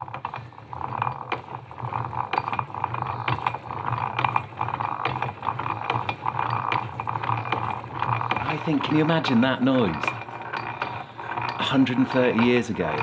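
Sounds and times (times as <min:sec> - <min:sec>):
hand-cranked drill gears clicking: 0:00.0 - 0:13.0.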